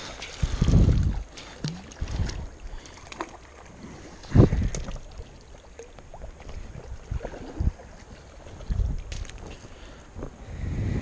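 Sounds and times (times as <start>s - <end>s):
wind rumbling on microphone: 0.0s - 2.9s, 3.7s - 11.0s
river water splashing: 0.0s - 10.2s.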